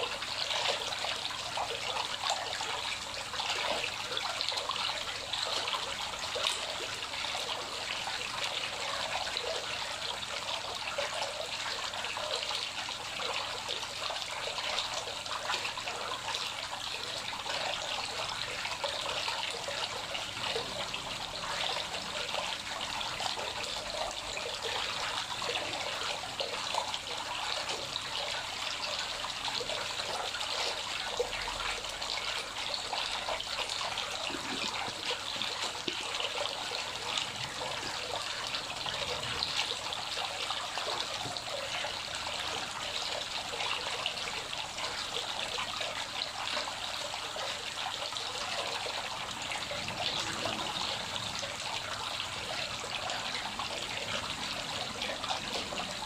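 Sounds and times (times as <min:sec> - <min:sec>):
water pouring into pond: 0:00.0 - 0:56.0.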